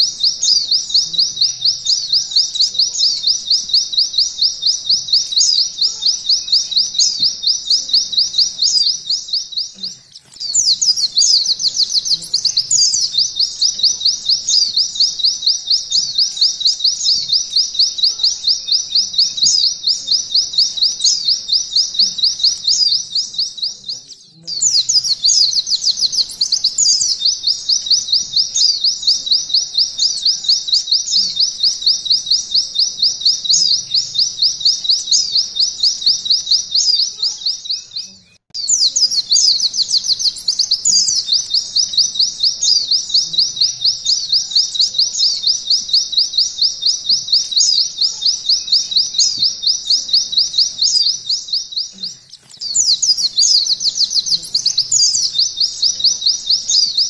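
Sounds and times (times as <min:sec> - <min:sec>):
bird singing rapid trill: 0:00.0 - 0:57.0.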